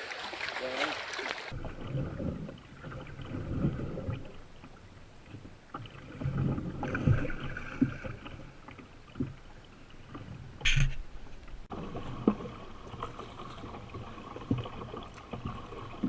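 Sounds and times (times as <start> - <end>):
water sloshing with paddle strokes: 0.0 - 16.0.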